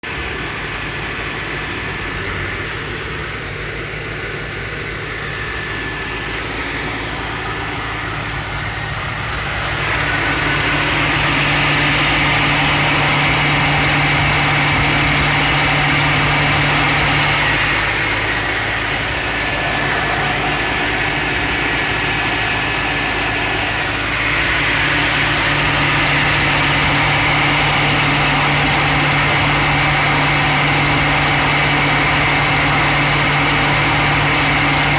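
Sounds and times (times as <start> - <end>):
car engine idling: 0.0 - 34.9
electric radiator fan whooshing: 4.6 - 34.9.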